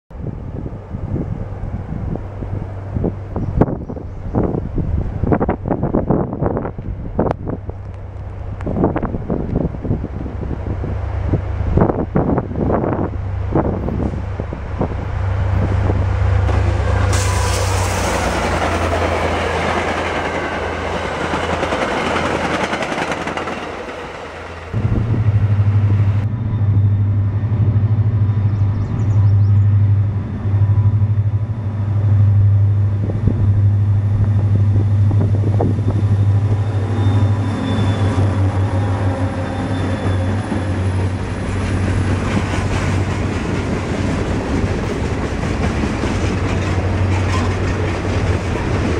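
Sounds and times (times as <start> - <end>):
freight train diesel drone: 0.1 - 48.9
train rushing past: 0.2 - 48.9
boxcars passing: 7.8 - 48.9.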